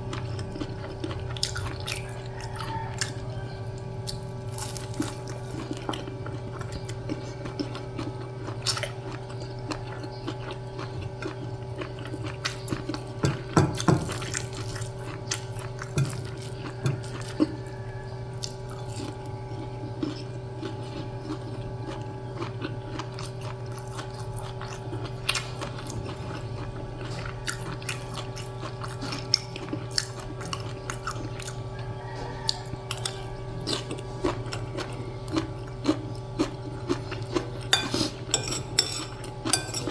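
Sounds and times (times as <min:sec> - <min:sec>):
person chewing and biting food: 0:00.0 - 0:39.9
steady low hum: 0:00.0 - 0:39.9.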